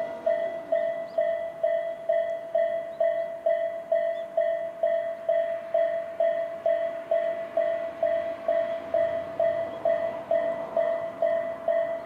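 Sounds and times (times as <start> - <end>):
level crossing alarm bell dinging: 0.0 - 12.0.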